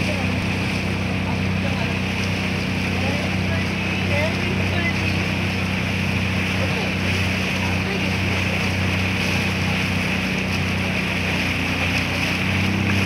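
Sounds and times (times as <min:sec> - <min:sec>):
speed boat engine droning: 0:00.0 - 0:13.0
wind and water rushing: 0:00.0 - 0:13.0.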